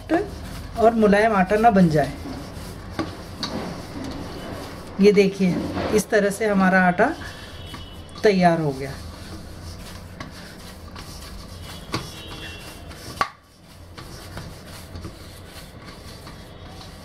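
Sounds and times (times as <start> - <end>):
hands kneading dough on metal plate: 0.0 - 17.0.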